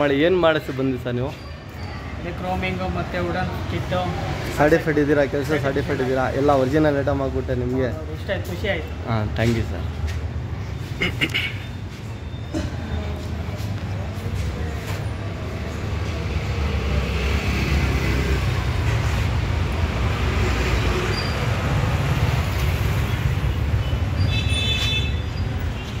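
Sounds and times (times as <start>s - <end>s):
rumble of passing vehicles: 0.0s - 26.0s.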